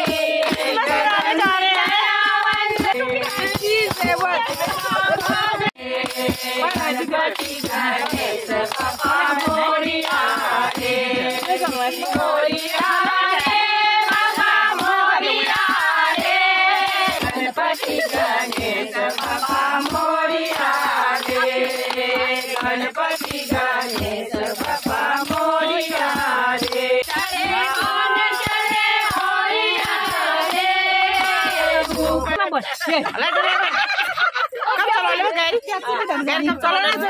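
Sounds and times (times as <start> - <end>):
rhythmic handclaps: 0.0 - 32.5
women singing together: 0.0 - 37.0.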